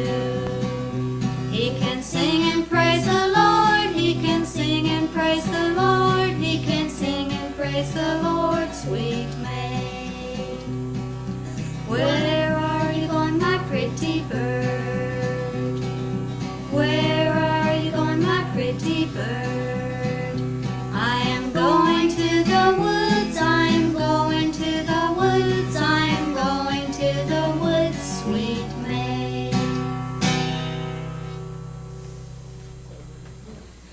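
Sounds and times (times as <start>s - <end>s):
acoustic guitar strumming: 0.0s - 33.9s.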